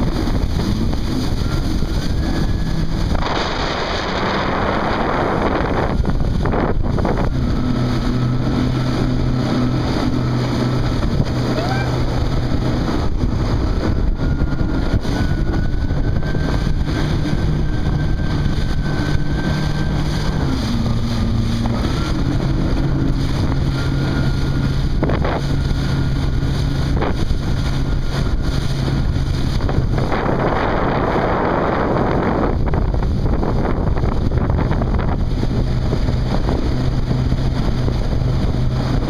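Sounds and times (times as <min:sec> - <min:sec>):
watercraft engine whining: 0:00.0 - 0:39.0
wind buffeting microphone: 0:00.0 - 0:39.0.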